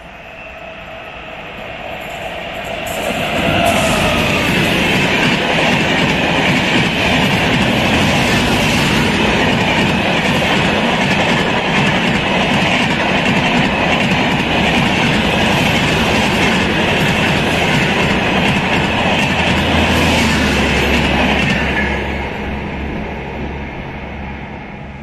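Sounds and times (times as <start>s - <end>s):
train coaches passing: 0.0s - 25.0s.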